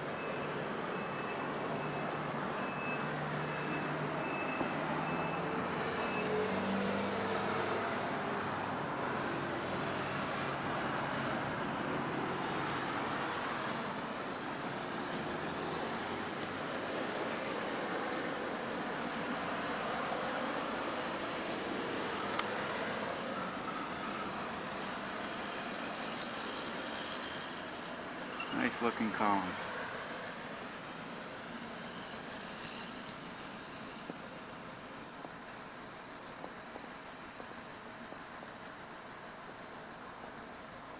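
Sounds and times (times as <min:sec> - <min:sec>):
road traffic passing: 0:00.3 - 0:39.6.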